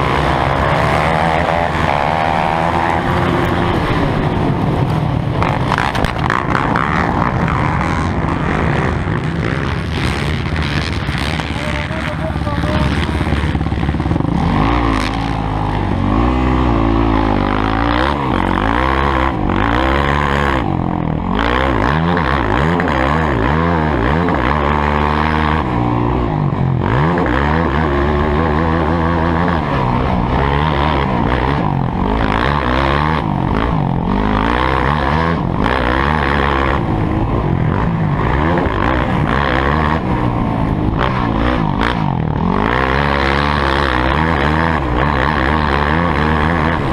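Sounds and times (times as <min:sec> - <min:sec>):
dirt bike engines revving: 0:00.0 - 0:46.9.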